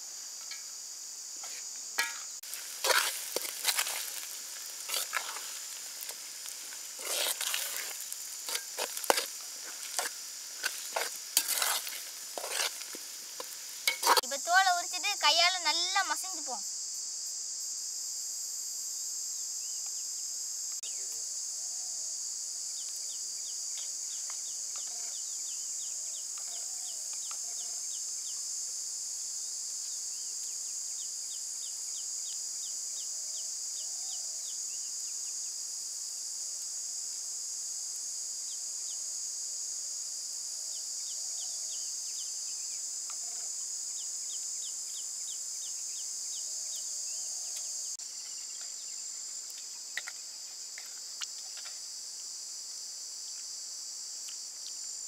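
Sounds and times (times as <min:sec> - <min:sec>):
insects droning: 0:00.0 - 0:55.0
quick insect chirps: 0:00.0 - 0:55.0.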